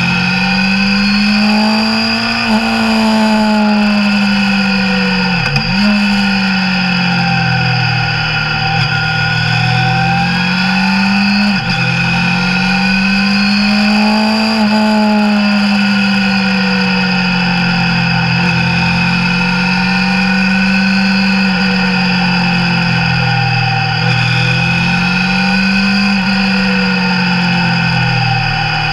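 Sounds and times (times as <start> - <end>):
motorcycle engine cruising: 0.0 - 28.9.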